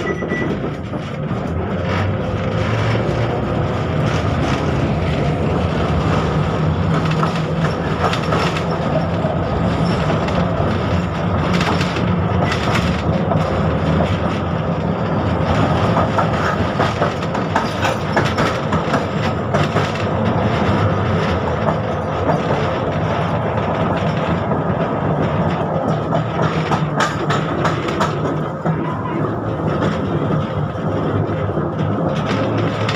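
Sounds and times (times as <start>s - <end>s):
tram rumbling along track: 0.0s - 32.9s
wheels clicking over rail joints: 0.0s - 32.9s.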